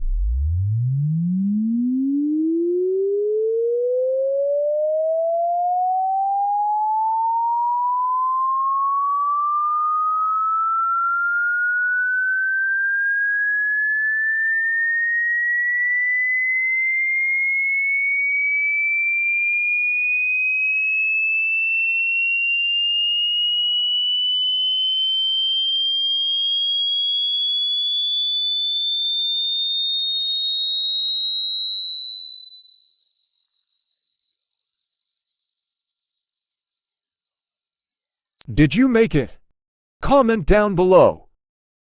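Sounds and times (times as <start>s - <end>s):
rising electronic sine tone: 0.0s - 38.4s.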